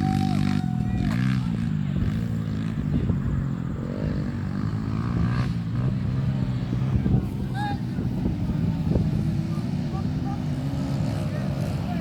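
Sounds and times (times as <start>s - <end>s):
pit bike engines revving: 0.0s - 12.0s.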